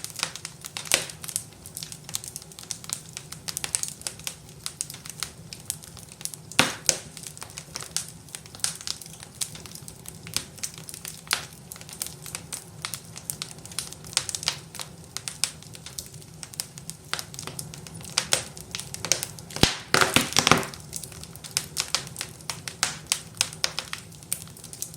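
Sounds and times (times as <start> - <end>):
wood fire crackling and popping: 0.0 - 24.9.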